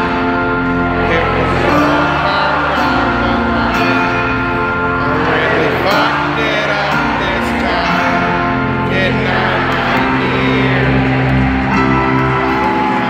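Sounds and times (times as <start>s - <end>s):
live folk-rock band: 0.0s - 13.0s
person singing: 0.0s - 13.0s.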